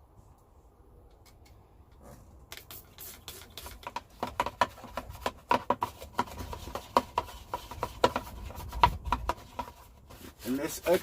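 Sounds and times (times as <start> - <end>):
cleaning clicks and rubs: 0.4 - 11.0.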